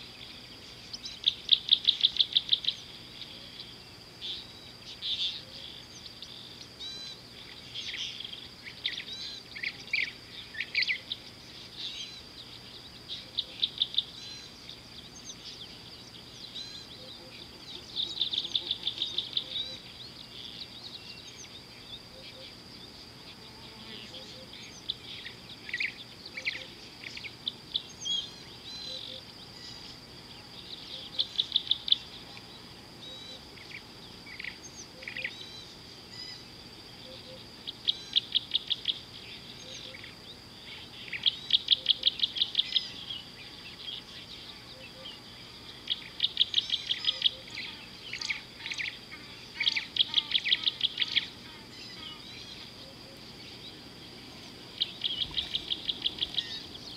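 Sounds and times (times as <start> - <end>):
birds chirping rapidly: 0.0 - 23.4, 24.0 - 32.2, 33.0 - 56.9
high-pitched insect drone: 0.0 - 56.9.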